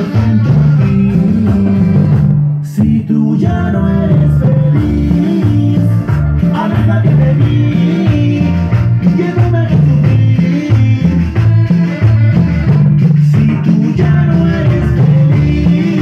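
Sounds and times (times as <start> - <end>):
loud latin dance music: 0.0 - 16.0.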